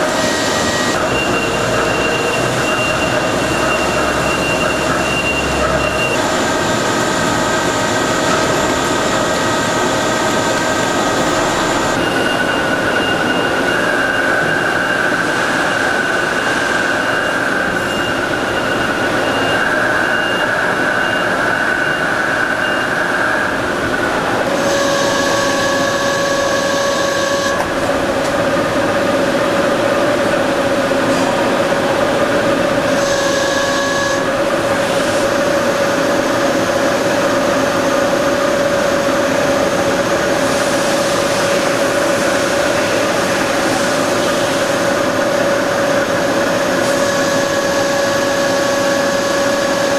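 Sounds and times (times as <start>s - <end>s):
lathe whine: 0.0s - 49.9s.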